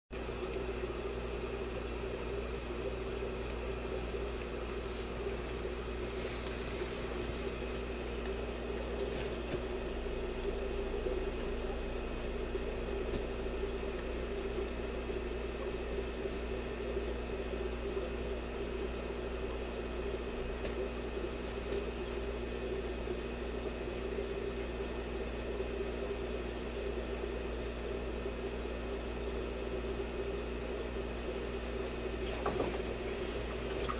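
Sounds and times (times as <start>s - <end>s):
aquarium equipment humming: 0.1s - 33.9s.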